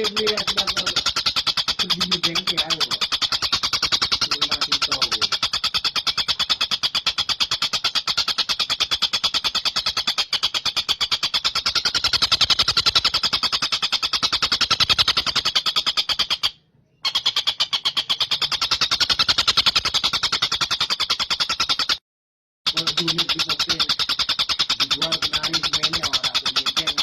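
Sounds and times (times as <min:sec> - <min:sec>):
kingfisher rattling trill: 0:00.0 - 0:22.0, 0:22.7 - 0:27.0.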